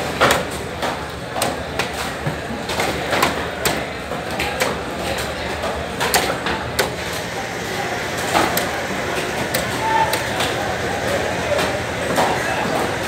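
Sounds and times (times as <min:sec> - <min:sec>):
busy fish market din: 0:00.0 - 0:13.0.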